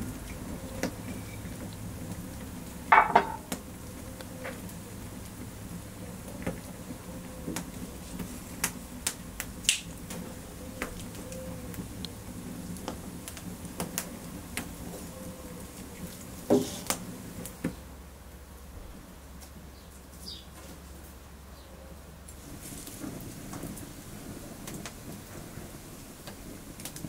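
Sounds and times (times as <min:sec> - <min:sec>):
steady low background noise: 0:00.0 - 0:27.0.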